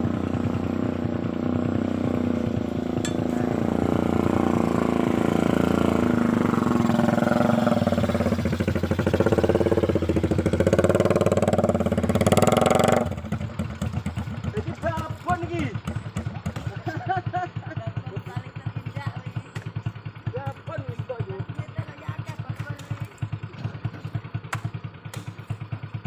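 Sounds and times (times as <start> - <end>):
small motorcycle engine revving: 0.0 - 26.0.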